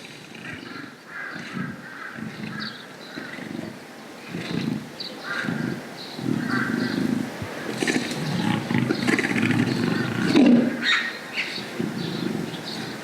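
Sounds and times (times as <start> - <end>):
large cat roaring and growling: 0.2 - 10.9, 11.6 - 13.0.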